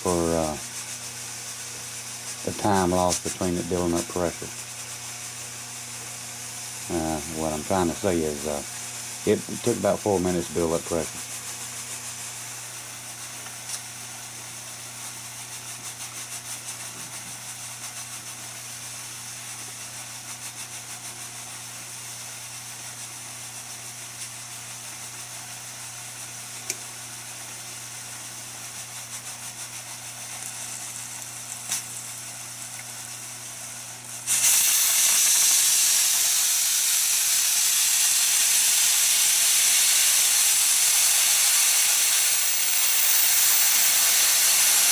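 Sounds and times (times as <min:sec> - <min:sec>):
low hum with faint hiss: 0:00.0 - 0:36.4
pressure cooker venting steam: 0:00.0 - 0:44.9.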